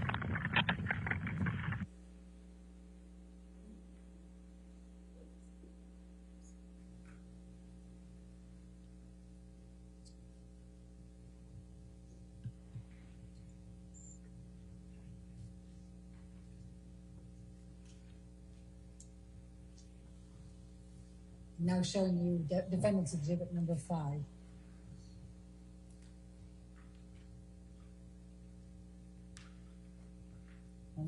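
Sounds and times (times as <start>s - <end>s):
faint electrical mains hum: 0.0s - 31.0s.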